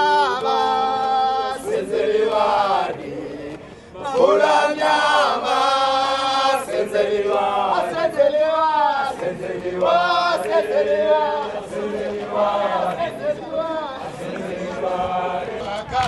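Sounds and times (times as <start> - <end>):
group singing in chorus: 0.0 - 16.0.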